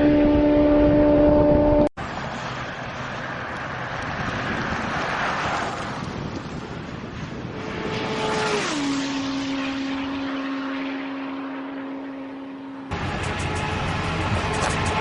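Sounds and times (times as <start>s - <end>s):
vehicle engine passing by: 2.0s - 15.0s.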